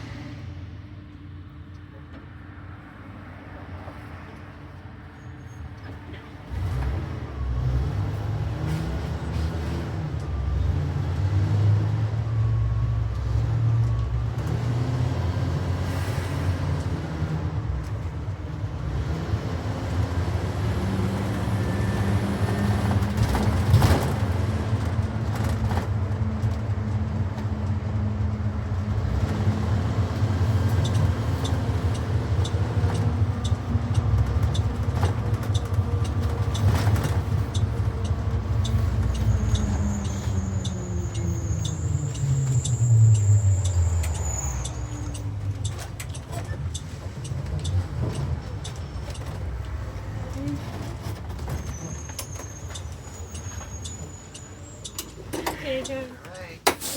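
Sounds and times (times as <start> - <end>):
bus engine: 0.0 - 56.9
road noise inside bus: 0.0 - 56.9.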